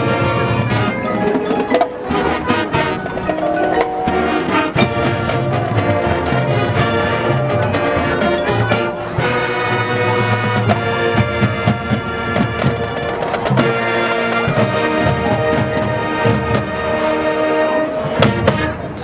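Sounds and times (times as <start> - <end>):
brass sustained chords: 0.0 - 12.6, 13.6 - 19.0
drum-line percussion hits: 0.0 - 17.1, 18.0 - 19.0.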